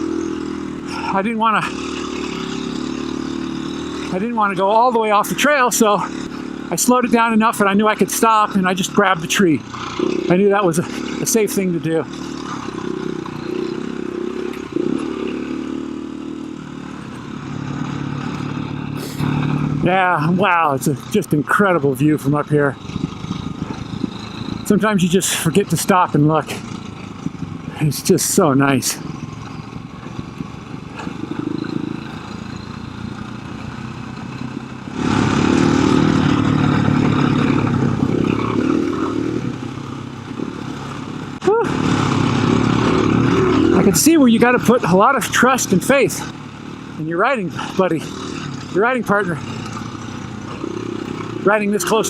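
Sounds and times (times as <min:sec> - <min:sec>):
clatter over trail: 0:00.0 - 0:52.0
dirt bike engine idling: 0:00.0 - 0:52.0.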